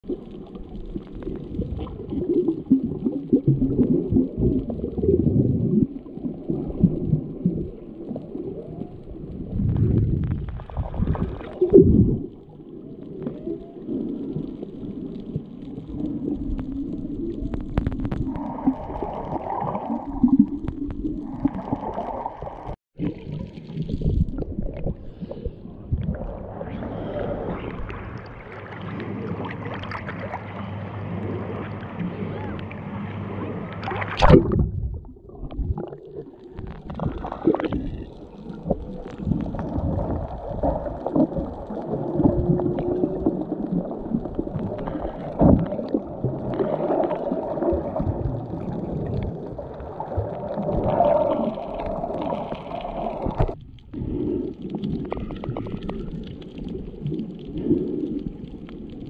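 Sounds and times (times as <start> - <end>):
muffled underwater water noise: 0.0 - 59.0.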